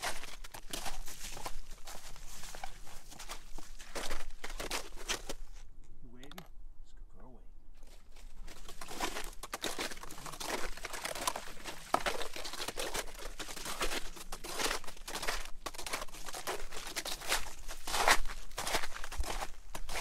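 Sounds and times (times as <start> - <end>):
footsteps crunching through snow: 0.0 - 5.7, 7.8 - 20.0.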